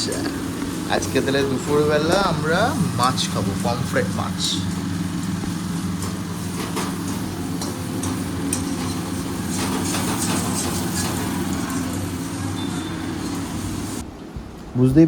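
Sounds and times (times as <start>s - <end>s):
motor hum: 0.0s - 14.6s.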